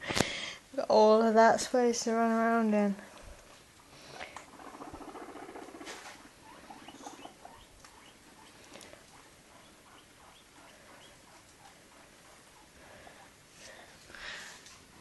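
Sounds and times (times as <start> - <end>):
guinea pigs purring: 1.0 - 13.9, 14.5 - 15.0.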